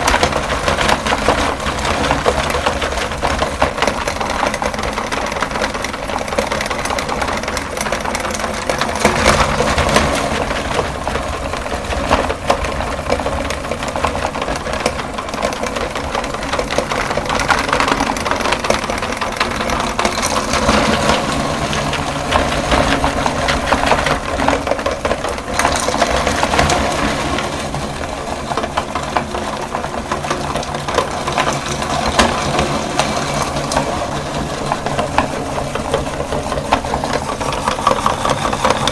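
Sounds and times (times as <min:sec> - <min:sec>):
meat grinder motor humming: 0:00.0 - 0:38.9.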